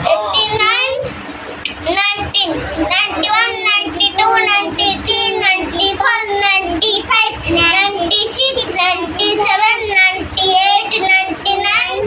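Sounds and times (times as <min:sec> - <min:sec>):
boy singing: 0:01.8 - 0:12.0.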